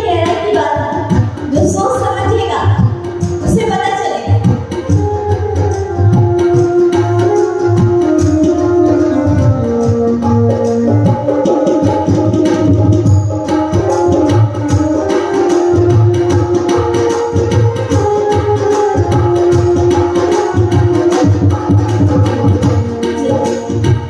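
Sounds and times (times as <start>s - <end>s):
hand drum playing rhythm: 0.0s - 24.0s
melody of held notes: 4.6s - 24.0s.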